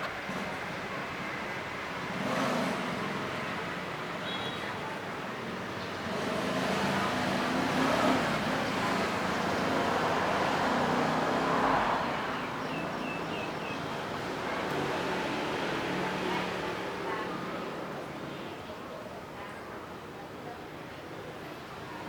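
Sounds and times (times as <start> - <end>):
vehicle engine running close: 0.0 - 18.6
road traffic noise: 0.0 - 22.0.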